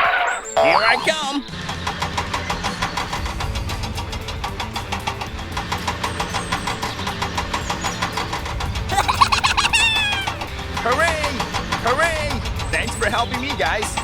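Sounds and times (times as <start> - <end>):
tractor engine chugging: 0.7 - 14.0.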